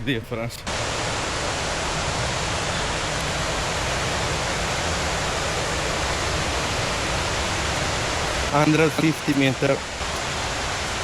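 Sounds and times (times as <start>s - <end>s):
waterfall rushing: 0.6s - 11.0s.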